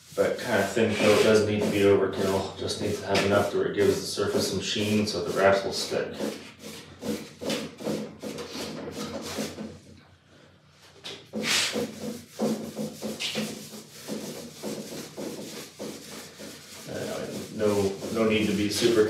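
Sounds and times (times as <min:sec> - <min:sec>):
foam brush swishing on wood: 0:00.0 - 0:09.6, 0:11.4 - 0:19.0.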